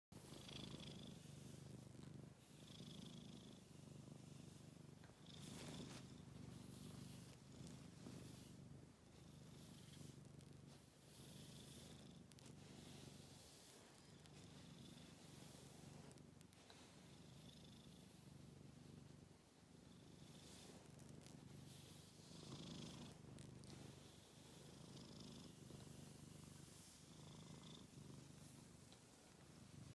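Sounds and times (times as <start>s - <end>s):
cat purring: 0.2s - 30.0s.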